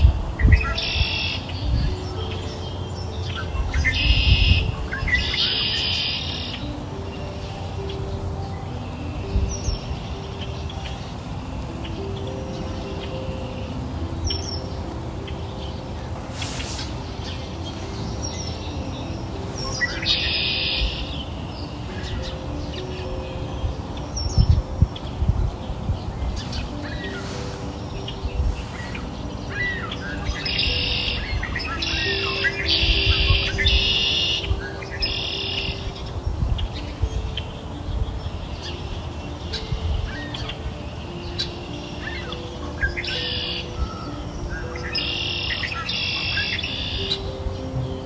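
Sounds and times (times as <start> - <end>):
birds chirping trills: 0.0 - 48.0
soft background music: 0.0 - 48.0.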